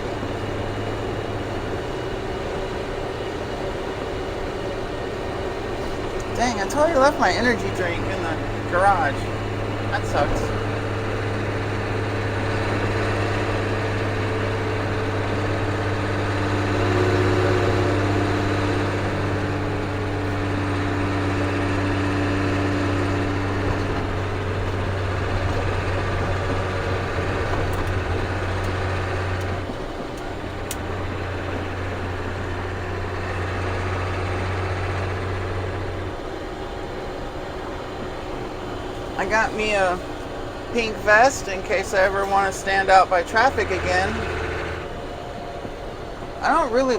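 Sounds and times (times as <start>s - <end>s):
diesel engine running steadily: 0.0s - 46.9s.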